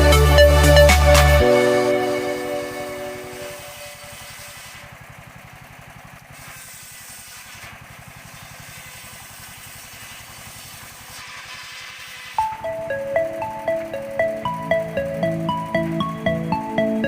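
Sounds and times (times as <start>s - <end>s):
engine idling: 2.5s - 11.2s, 12.0s - 17.0s.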